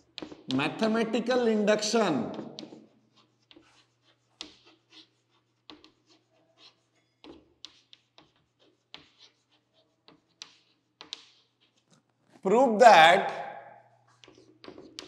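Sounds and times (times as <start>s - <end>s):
chalk tapping and scratching: 0.0s - 12.3s, 13.8s - 15.0s.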